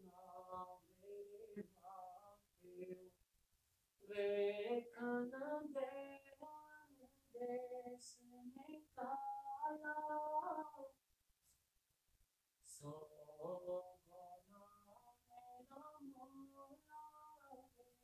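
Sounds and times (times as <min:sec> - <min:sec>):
solo voice singing: 0:00.0 - 0:03.1, 0:04.0 - 0:11.0, 0:12.7 - 0:18.0.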